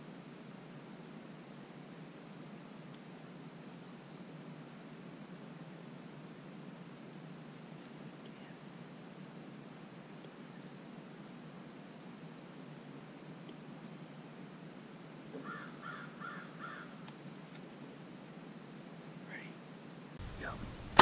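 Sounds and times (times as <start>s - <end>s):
insects droning: 0.0s - 21.0s
low even hiss: 0.0s - 21.0s.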